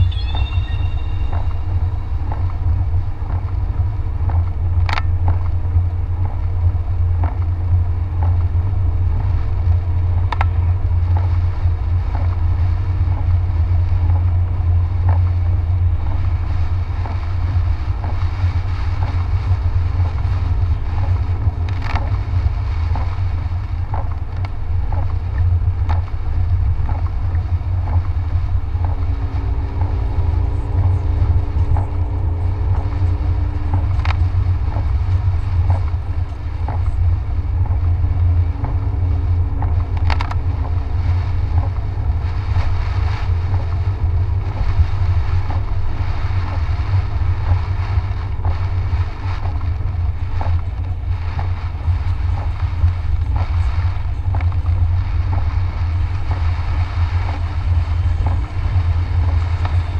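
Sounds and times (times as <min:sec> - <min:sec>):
car cabin low rumble: 0:00.0 - 0:59.9
rain and wet tyres hissing: 0:00.0 - 0:59.9.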